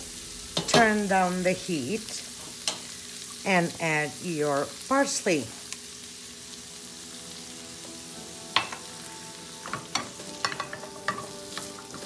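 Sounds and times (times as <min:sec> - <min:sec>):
beans sizzling in a frying pan: 0:00.0 - 0:12.0.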